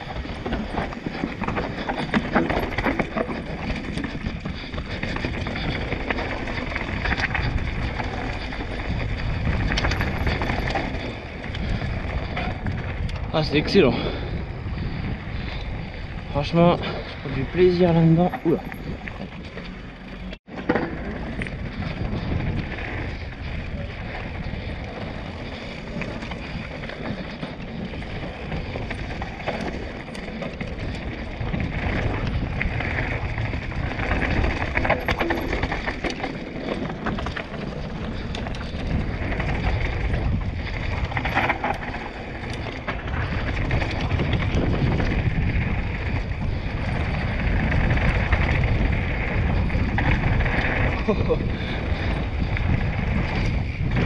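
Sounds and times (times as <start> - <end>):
bike rattling: 0.0 - 54.0
tyres on loose stones: 0.0 - 54.0
wind rush on microphone: 0.0 - 54.0.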